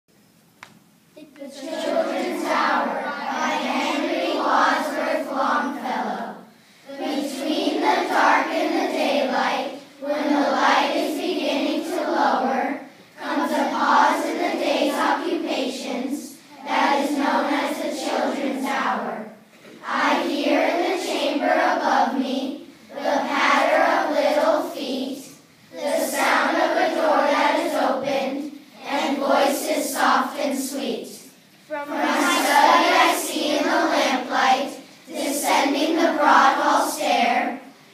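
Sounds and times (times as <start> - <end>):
children reciting in unison: 1.2 - 37.9.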